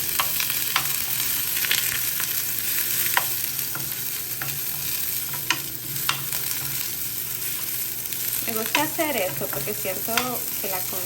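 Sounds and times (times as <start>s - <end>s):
onion sizzling in a hot pan: 0.0s - 11.0s.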